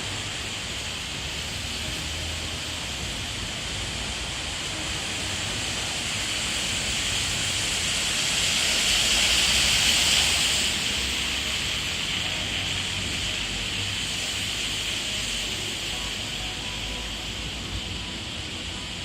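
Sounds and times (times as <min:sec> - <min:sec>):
rain and water rushing on road: 0:00.0 - 0:19.0.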